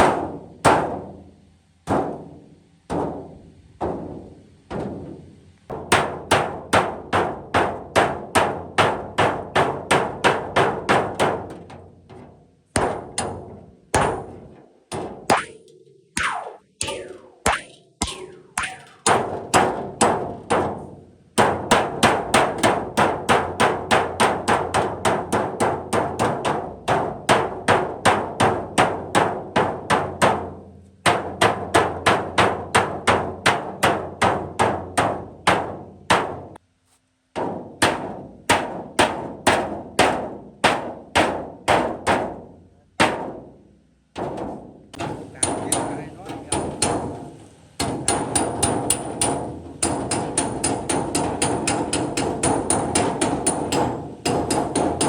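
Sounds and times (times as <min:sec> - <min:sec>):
hammer on sheet metal: 0:00.0 - 0:36.6, 0:37.4 - 0:43.6, 0:44.2 - 0:55.0.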